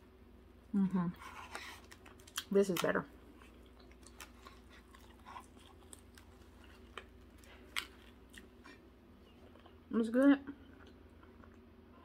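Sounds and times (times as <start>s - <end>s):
chewing crunchy food: 1.2s - 12.0s.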